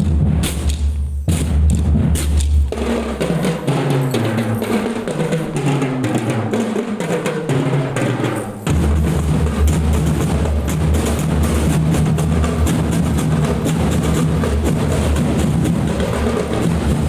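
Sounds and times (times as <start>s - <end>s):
marching drum band playing: 0.0s - 17.0s.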